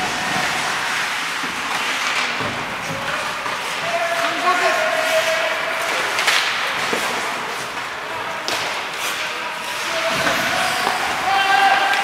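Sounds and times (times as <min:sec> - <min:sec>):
skates scraping on ice: 0:00.0 - 0:12.0
hockey sticks and puck knocking: 0:00.1 - 0:12.0.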